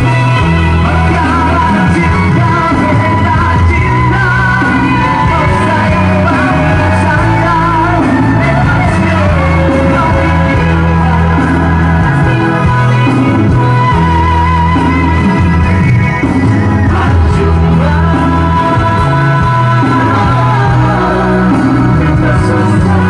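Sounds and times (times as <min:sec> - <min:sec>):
amplified backing music: 0:00.0 - 0:23.0
man singing into a microphone: 0:00.0 - 0:23.0.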